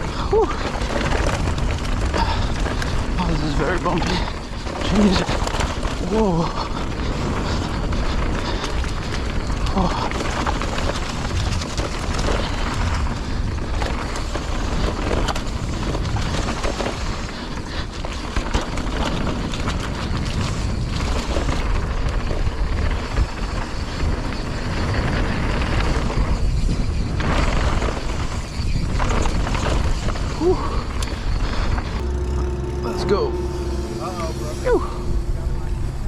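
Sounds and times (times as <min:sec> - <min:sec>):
mountain bike rattling: 0:00.0 - 0:36.0
wind buffeting microphone: 0:00.0 - 0:36.0.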